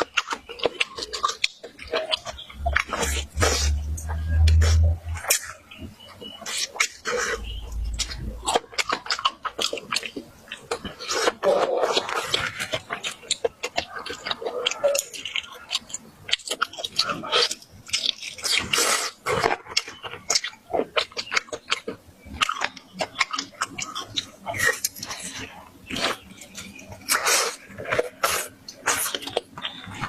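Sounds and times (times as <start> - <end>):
person chewing and smacking: 0.0 - 30.0.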